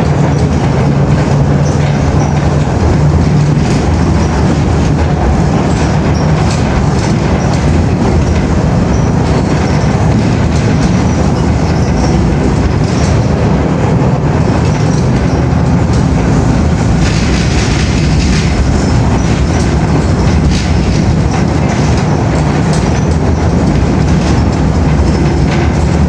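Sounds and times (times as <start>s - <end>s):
train clatter: 0.0s - 26.0s
train rumbling: 0.0s - 26.0s.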